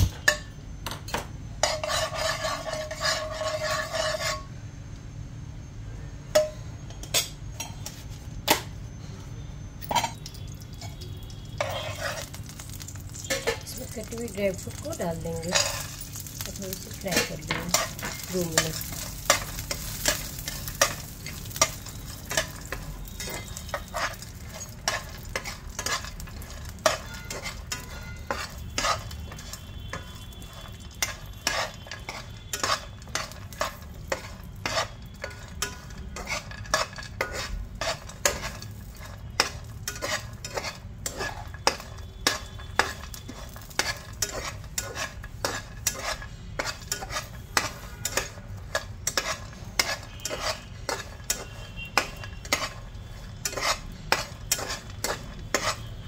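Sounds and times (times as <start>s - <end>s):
faint sizzle: 1.4s - 56.0s
spatula scraping a frying pan: 1.5s - 4.6s, 9.9s - 56.0s.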